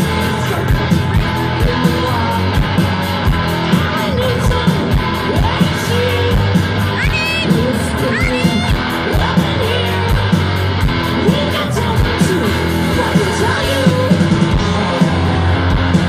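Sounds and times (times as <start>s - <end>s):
person singing: 0.0s - 15.7s
bass guitar: 0.0s - 16.0s
distorted electric guitars: 0.0s - 16.0s
steady drum beat: 0.0s - 16.0s.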